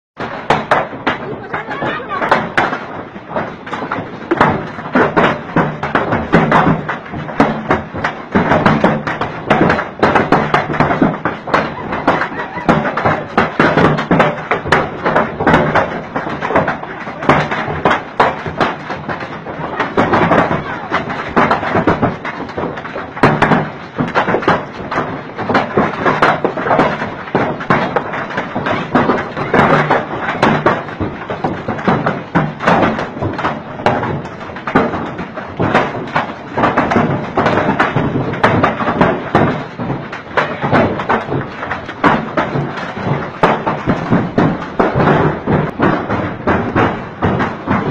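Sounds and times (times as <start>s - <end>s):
heavy hail clattering: 0.2s - 47.9s.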